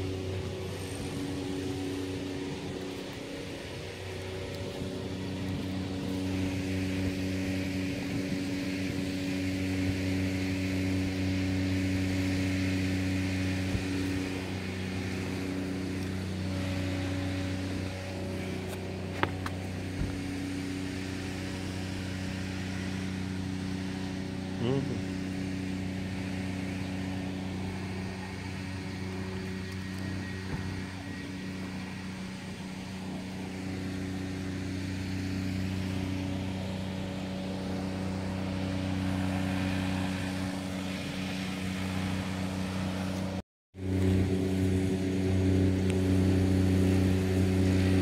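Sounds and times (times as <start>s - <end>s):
engine humming steadily: 0.0s - 48.0s.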